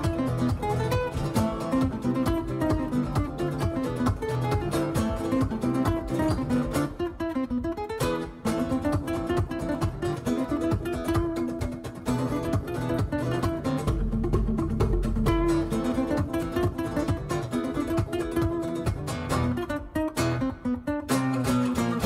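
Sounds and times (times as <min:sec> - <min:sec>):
fast strummed acoustic guitar: 0:00.0 - 0:22.0.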